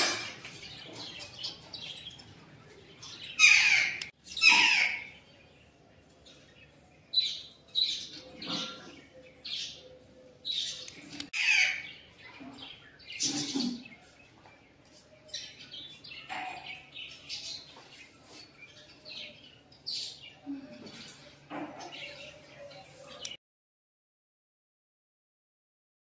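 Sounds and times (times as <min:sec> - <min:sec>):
birds chirping: 0:00.0 - 0:23.4.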